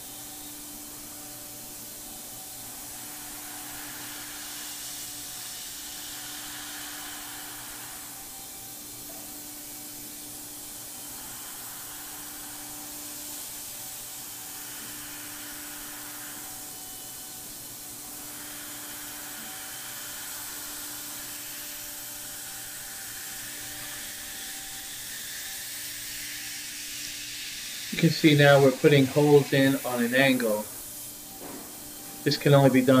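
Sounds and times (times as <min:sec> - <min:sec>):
cnc router hissing: 0:00.0 - 0:33.0.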